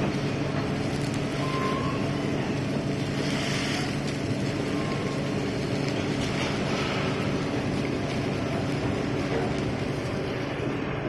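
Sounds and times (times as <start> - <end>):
low machinery hum: 0.0 - 11.0
torch flame hissing: 0.0 - 11.0.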